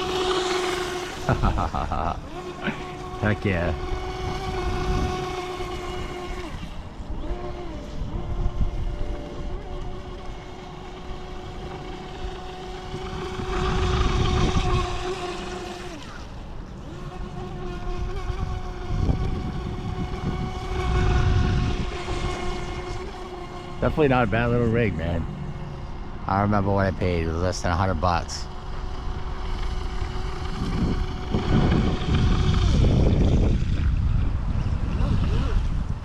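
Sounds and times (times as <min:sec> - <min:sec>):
toy boat motor whining: 0:00.0 - 0:36.0.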